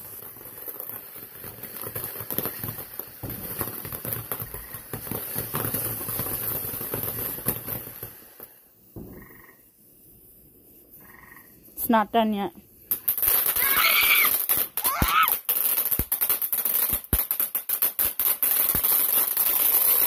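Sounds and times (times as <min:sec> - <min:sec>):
firework crackling and hissing: 0:00.0 - 0:20.0.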